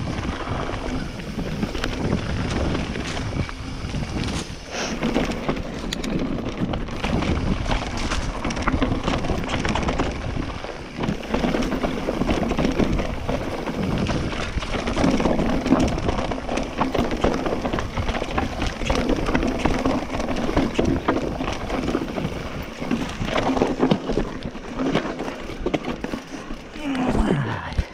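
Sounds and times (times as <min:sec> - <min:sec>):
wind buffeting microphone: 0:00.0 - 0:24.6
bike rattling over bumps: 0:00.0 - 0:26.8
bike tyres crunching over stones: 0:00.0 - 0:27.9.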